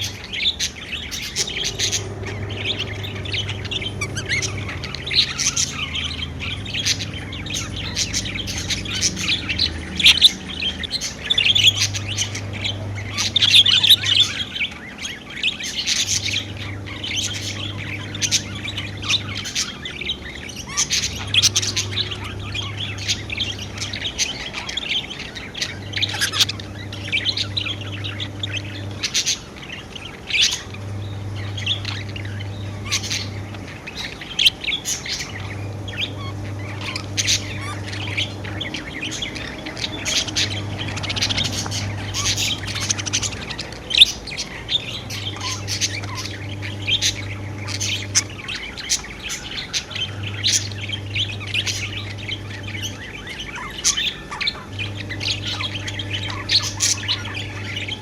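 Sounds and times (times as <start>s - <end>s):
budgerigars chirping and warbling: 0.0s - 58.0s.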